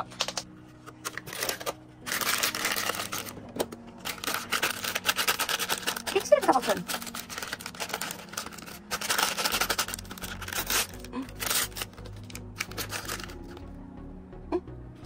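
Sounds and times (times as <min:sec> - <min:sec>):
plastic packet crinkling and tearing: 0:00.0 - 0:13.7.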